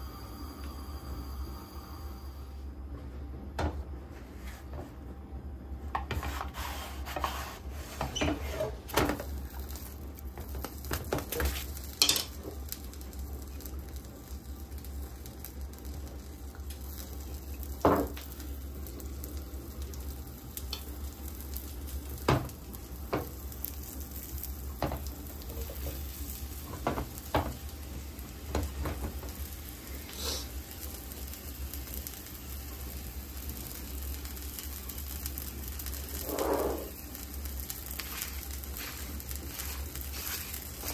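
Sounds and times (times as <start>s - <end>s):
food sizzling in a pan: 6.1s - 40.9s.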